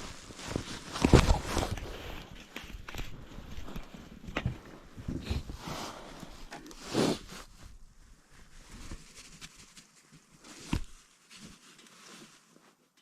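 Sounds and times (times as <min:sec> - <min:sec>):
clothing and gear rustling: 0:00.0 - 0:13.0.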